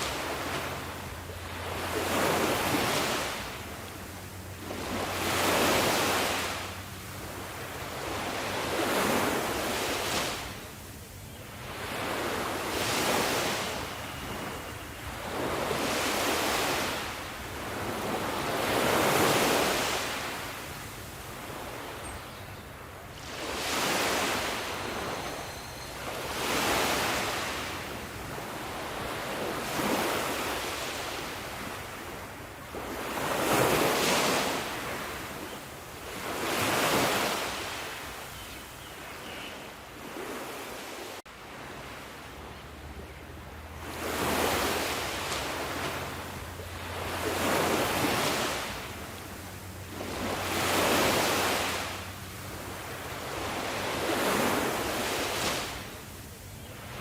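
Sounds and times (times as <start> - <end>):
sea waves breaking: 0.0 - 22.1, 22.8 - 38.3, 40.0 - 57.0.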